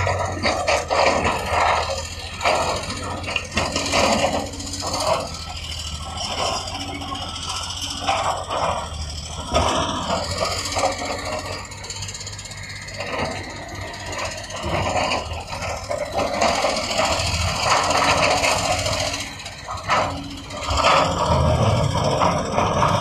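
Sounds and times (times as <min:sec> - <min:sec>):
construction machinery engine running: 0:00.0 - 0:23.0.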